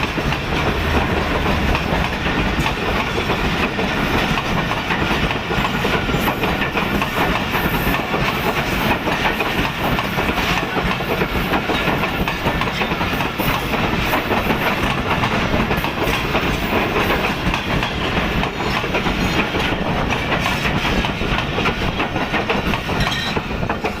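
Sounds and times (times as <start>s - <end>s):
train running past: 0.0s - 24.0s
wheels clattering over rail joints: 0.0s - 24.0s.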